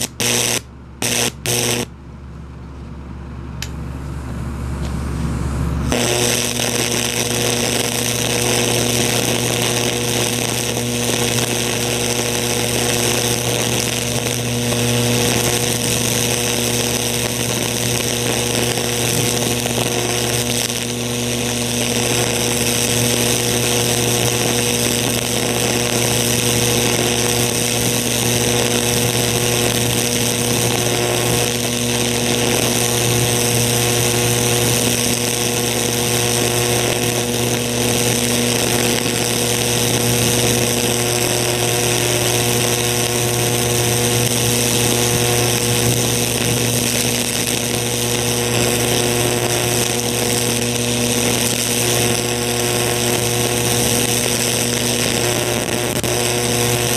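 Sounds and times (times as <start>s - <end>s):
electric arc buzzing and crackling: 0.0s - 1.9s, 5.8s - 56.9s.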